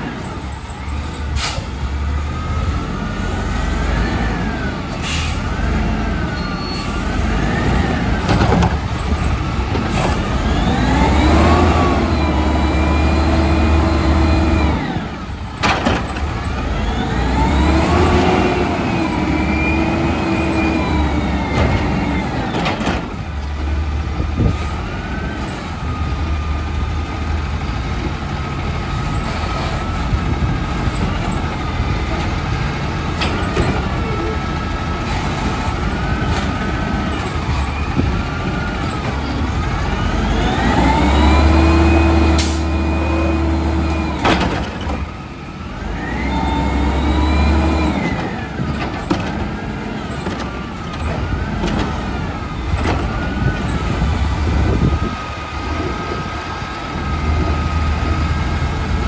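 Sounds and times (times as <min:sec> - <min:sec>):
garbage truck engine revving: 0:07.0 - 0:59.0.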